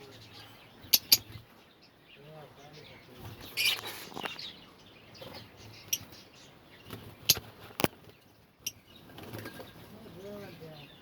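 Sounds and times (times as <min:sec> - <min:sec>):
lovebirds chirping faintly: 0:00.0 - 0:11.0.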